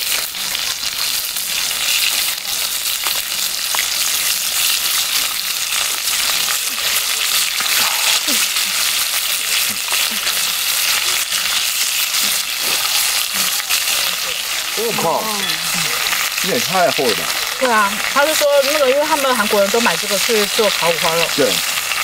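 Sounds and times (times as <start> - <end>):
pork frying with spitting fat: 0.0 - 22.0.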